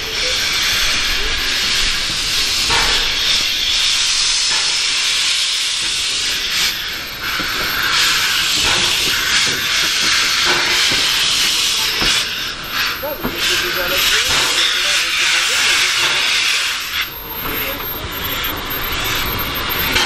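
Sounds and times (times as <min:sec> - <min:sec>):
steam locomotive hissing: 0:00.0 - 0:20.0.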